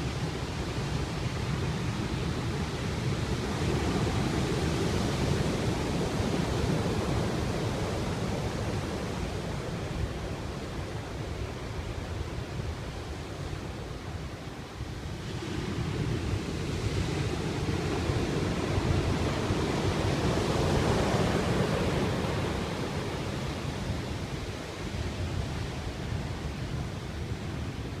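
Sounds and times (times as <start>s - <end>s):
waves breaking on shore: 0.0s - 28.0s.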